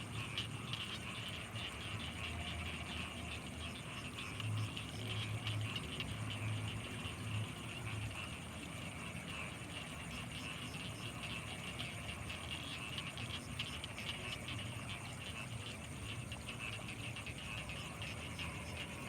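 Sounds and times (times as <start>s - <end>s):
frogs: 0.0s - 19.0s
insects chirping: 0.0s - 19.0s.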